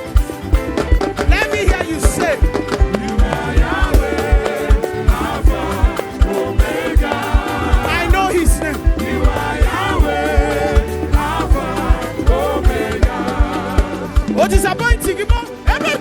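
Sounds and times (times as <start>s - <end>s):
gospel singers with band: 0.3s - 16.0s.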